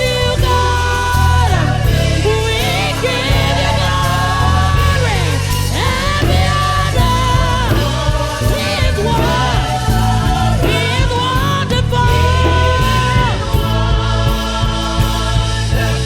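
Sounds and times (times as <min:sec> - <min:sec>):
band playing worship music: 0:00.0 - 0:16.0
people singing long notes: 0:00.0 - 0:16.0
steady bass: 0:00.0 - 0:16.0.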